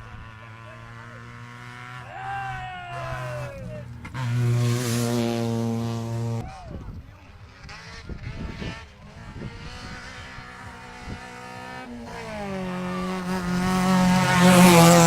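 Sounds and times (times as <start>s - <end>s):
rally car engine: 0.0s - 15.0s.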